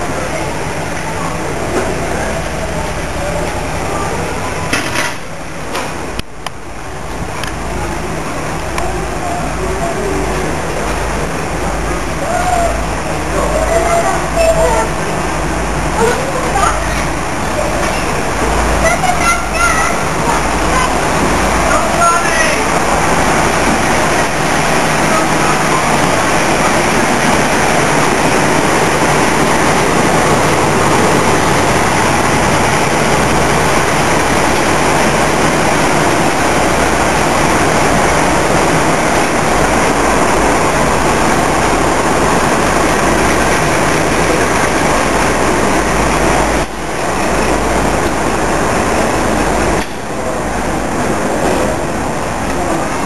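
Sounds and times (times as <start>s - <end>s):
diesel locomotive engines running: 0.0s - 53.0s
distant diesel locomotive approaching: 0.0s - 53.0s.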